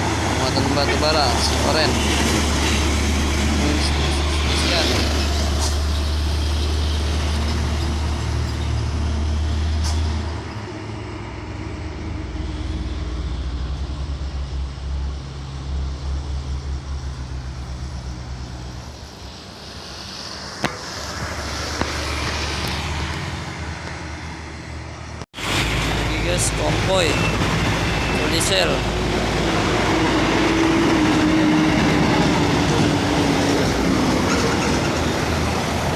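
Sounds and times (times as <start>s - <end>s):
heavy trucks passing: 0.0s - 35.9s.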